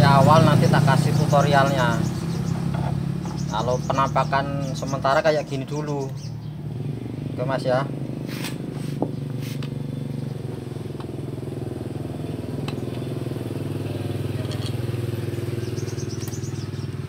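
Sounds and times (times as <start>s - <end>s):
two-stroke engine running: 0.0s - 17.0s.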